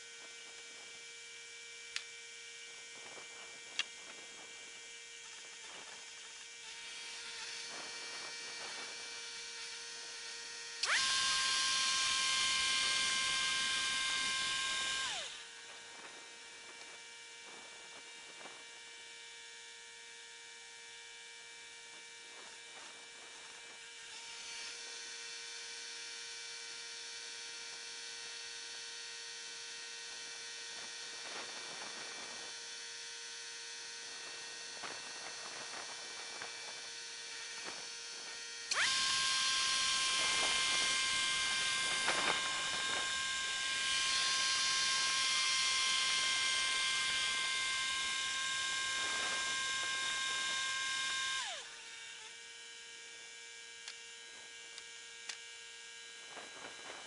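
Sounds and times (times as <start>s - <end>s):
loud high saw whine: 0.0s - 57.0s
sawmill running hum: 0.0s - 57.0s.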